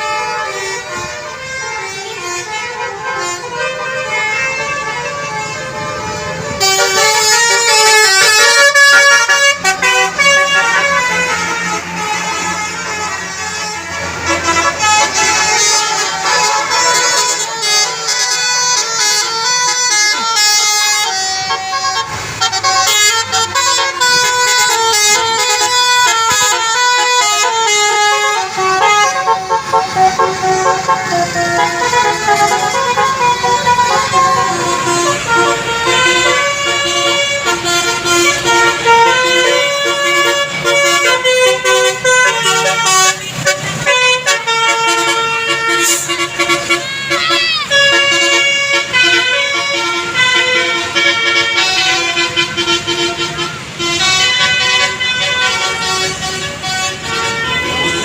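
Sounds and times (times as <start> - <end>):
bus engine running: 0.0 - 58.0
musical bus horn tune: 0.0 - 58.0.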